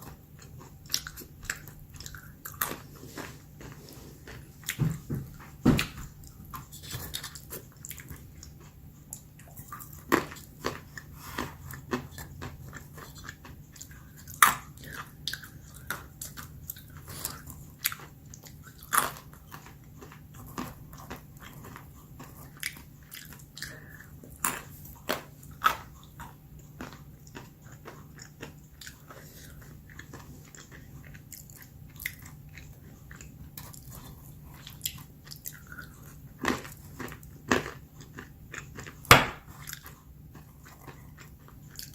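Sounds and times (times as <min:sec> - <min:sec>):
almonds crunching while chewed: 0:00.0 - 0:05.1, 0:05.9 - 0:41.9.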